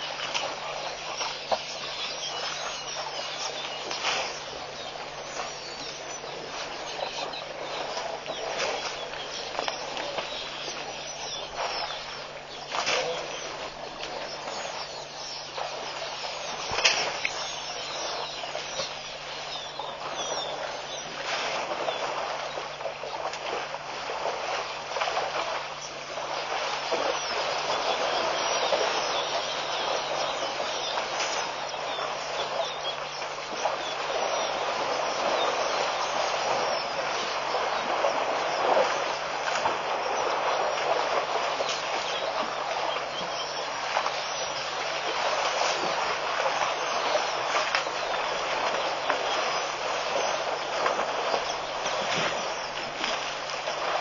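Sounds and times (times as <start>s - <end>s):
bird calls: 0.0s - 54.0s
elephants splashing through water: 0.0s - 54.0s
faint low hum: 0.0s - 54.0s
steady noisy wash: 0.0s - 54.0s.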